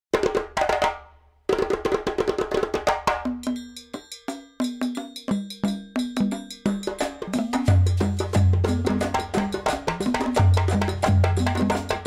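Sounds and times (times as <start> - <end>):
percussive background music: 0.2 - 12.0.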